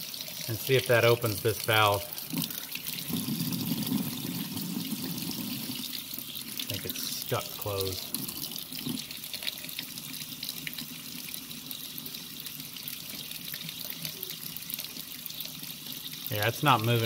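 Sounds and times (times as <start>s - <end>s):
water splashing into metal sink: 0.0s - 17.0s.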